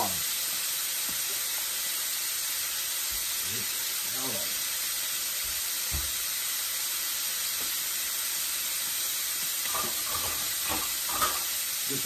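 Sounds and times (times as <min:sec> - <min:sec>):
stir fry sizzling in a wok: 0:00.0 - 0:12.0.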